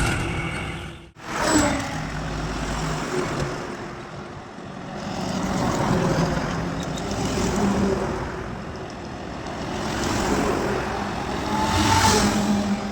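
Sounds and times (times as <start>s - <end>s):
highway traffic passing: 0.0s - 12.9s.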